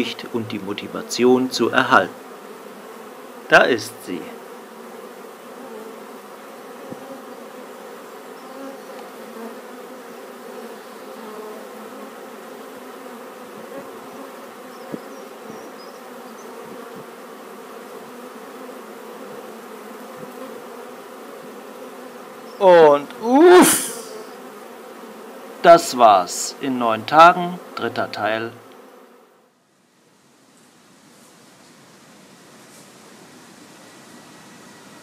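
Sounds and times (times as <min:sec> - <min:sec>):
bees buzzing: 0:00.0 - 0:29.6.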